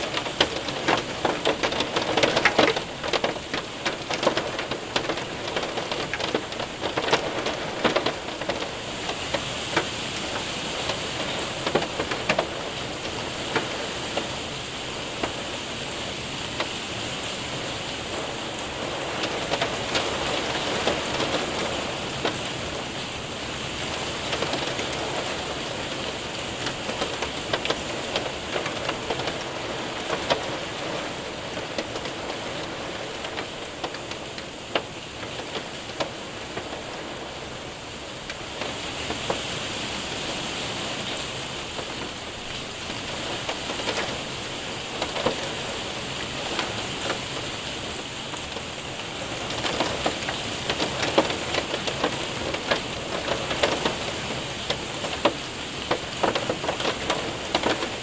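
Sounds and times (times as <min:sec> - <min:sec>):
hailstones ticking: 0:00.0 - 0:58.0
rain pattering on window: 0:00.0 - 0:58.0.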